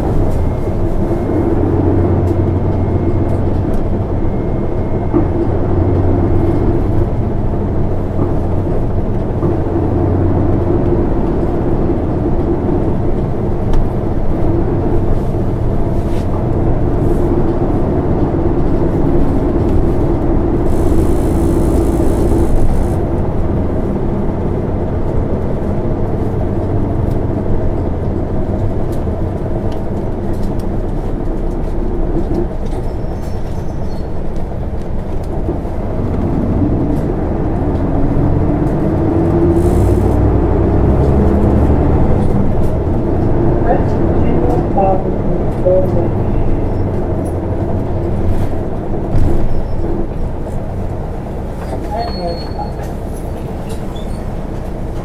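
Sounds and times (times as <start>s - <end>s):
bus diesel engine hum: 0.0s - 55.0s
road noise: 0.0s - 55.0s.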